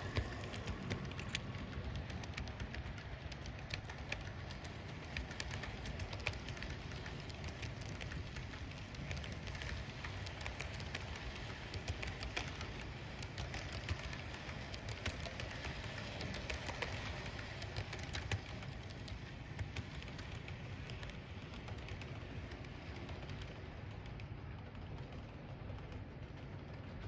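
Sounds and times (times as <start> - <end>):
model train wheels clicking: 0.0 - 27.0.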